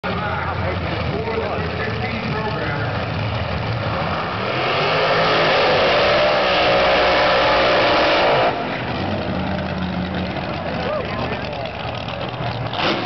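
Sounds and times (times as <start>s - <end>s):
dragster engine at full throttle: 0.1s - 13.0s.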